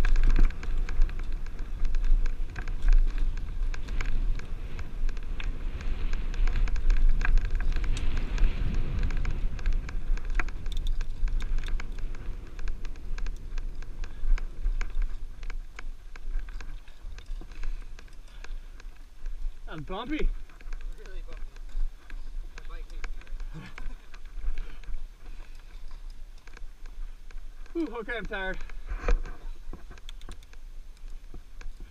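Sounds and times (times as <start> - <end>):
bike rattling over rock: 0.0 - 31.9
wind buffeting microphone: 0.0 - 31.9.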